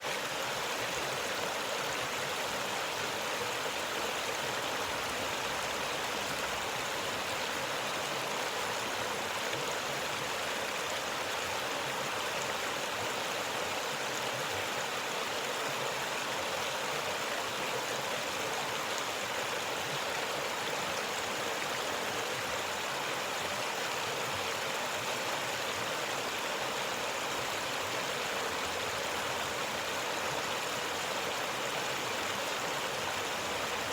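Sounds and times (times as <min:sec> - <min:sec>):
river flowing over stones: 0:00.0 - 0:33.9.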